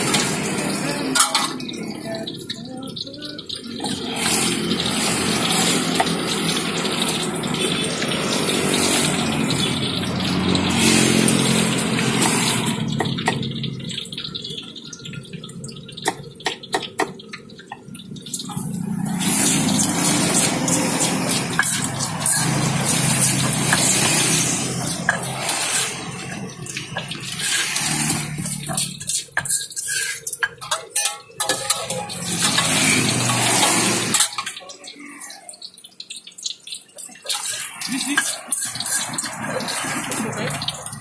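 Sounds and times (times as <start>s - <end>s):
oil sizzling in a wok: 0.0s - 41.0s.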